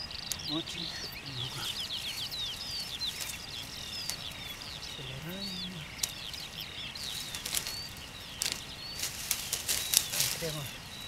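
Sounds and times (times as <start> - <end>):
hands rustling through plants: 0.0 - 11.0
songbirds chirping: 0.0 - 11.0.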